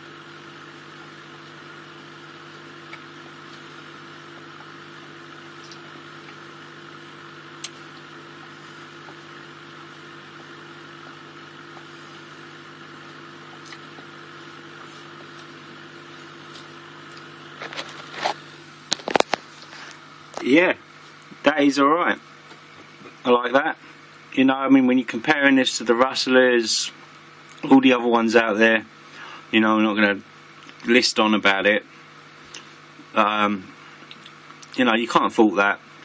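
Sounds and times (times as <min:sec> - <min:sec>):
aquarium air pump humming: 0:00.0 - 0:36.0.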